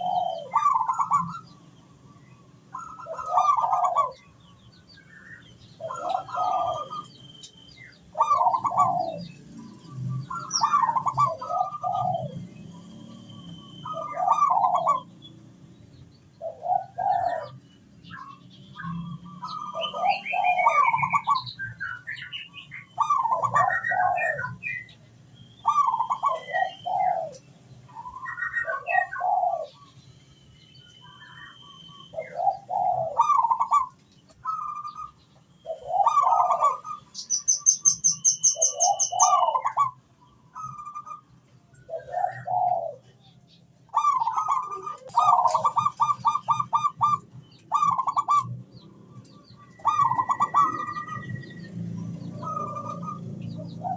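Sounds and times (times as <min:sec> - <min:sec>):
dove cooing: 0:00.0 - 0:01.6, 0:02.7 - 0:04.4, 0:05.6 - 0:07.2, 0:08.1 - 0:15.2, 0:16.4 - 0:24.9, 0:25.6 - 0:29.9, 0:31.3 - 0:43.3, 0:43.9 - 0:53.9
high bird trill: 0:00.0 - 0:15.4, 0:16.4 - 0:53.9
small birds chirping: 0:00.0 - 0:53.9.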